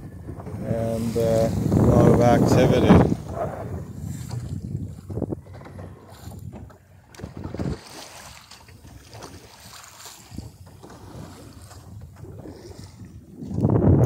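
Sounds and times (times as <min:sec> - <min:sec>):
wind rushing over microphone: 0:00.0 - 0:08.0, 0:10.3 - 0:14.0
water washing along hull: 0:00.0 - 0:14.0.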